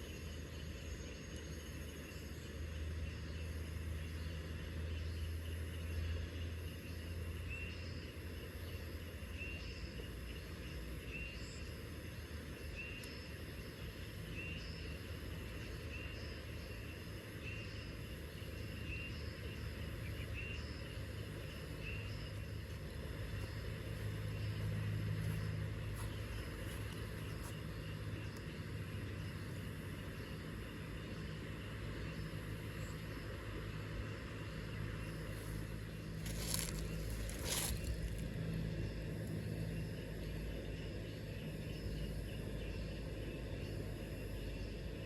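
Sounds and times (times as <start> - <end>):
insects droning: 0.0 - 45.0
low engine hum: 0.0 - 45.0.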